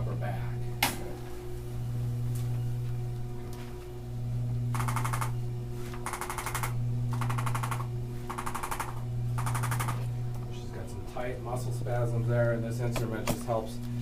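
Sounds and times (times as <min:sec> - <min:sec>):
massager motor hum: 0:00.0 - 0:14.0.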